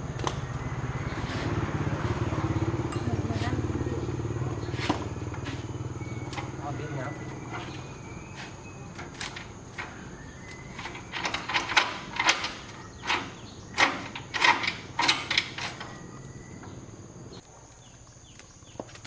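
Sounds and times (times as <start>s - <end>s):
hand tools knocking and scraping: 0.1s - 16.9s.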